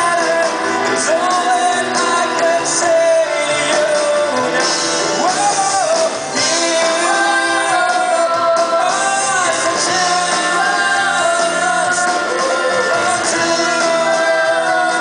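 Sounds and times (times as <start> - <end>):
acoustic guitar: 0.0 - 15.0
drums: 0.0 - 15.0
keyboard: 0.0 - 15.0
person singing: 0.0 - 15.0.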